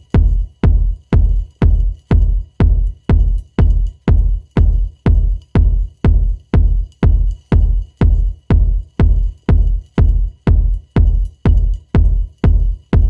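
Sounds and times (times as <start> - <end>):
electronic music with deep bass pulse: 0.0 - 13.0.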